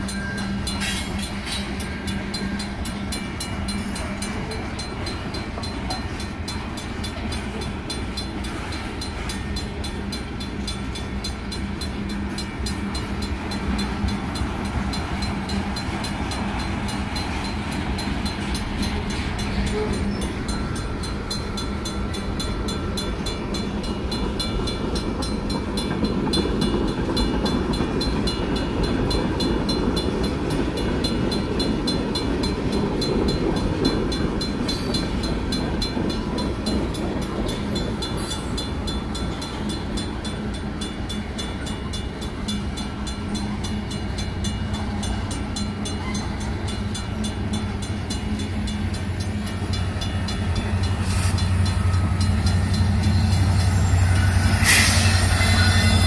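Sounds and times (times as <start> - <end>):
crossing bell ringing: 0.0 - 56.0
diesel locomotive engine drone: 0.0 - 56.0
train wheels clacking over rails: 0.0 - 56.0.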